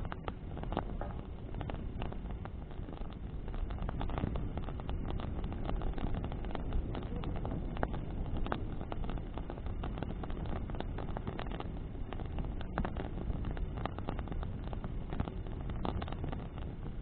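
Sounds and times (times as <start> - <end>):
bonfire crackling and popping: 0.0 - 17.0
rush of flame and wind: 0.0 - 17.0.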